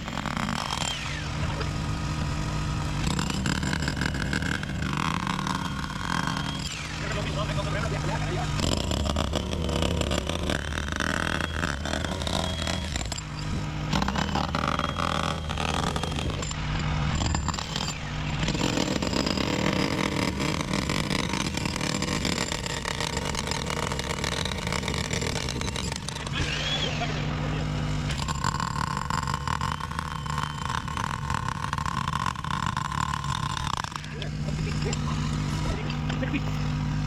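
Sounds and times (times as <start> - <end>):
machinery engine running: 0.0 - 37.0.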